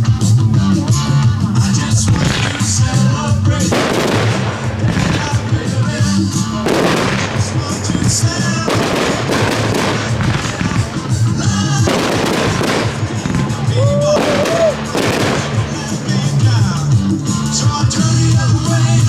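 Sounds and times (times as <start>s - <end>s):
fireworks bursting and crackling: 0.0s - 19.0s
music from loudspeakers: 0.0s - 19.0s
firework rising whistle: 2.0s - 18.4s.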